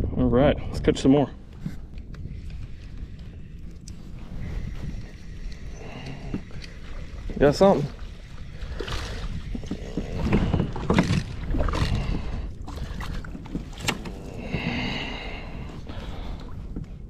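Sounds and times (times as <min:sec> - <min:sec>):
water splashing around a kayak: 0:02.4 - 0:17.0.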